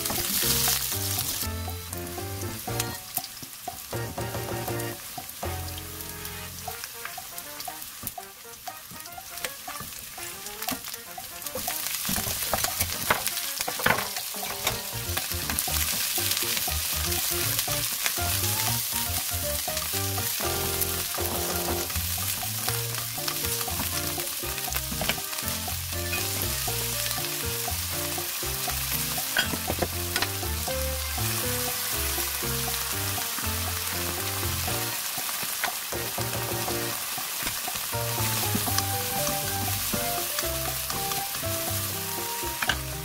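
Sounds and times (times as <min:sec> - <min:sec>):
vegetables sizzling in hot oil: 0:00.0 - 0:43.0.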